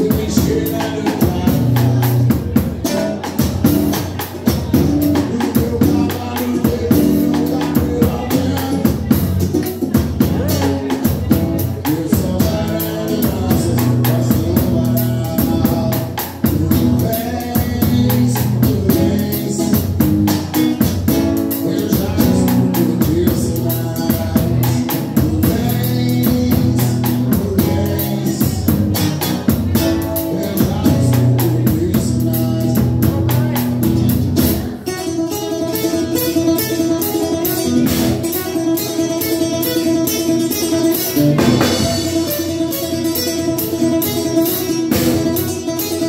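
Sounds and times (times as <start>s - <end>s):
drum kit cymbal beat: 0.0s - 46.0s
guitar: 0.0s - 46.0s
man singing: 0.0s - 46.0s.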